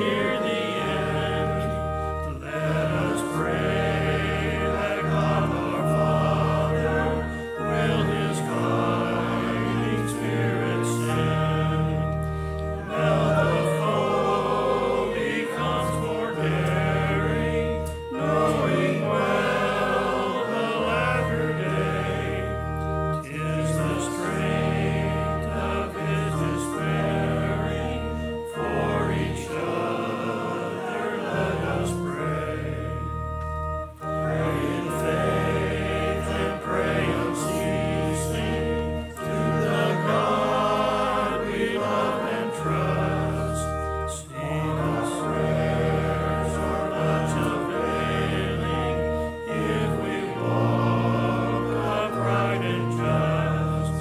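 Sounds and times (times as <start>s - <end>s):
congregation singing a hymn: 0.0s - 54.0s
organ playing: 0.0s - 54.0s.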